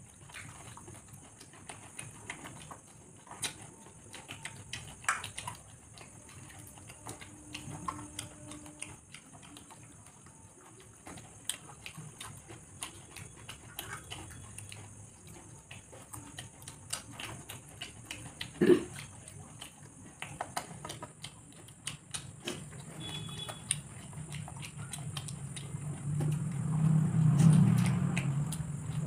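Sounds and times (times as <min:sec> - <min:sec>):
people chewing and lip-smacking: 0:00.0 - 0:29.0.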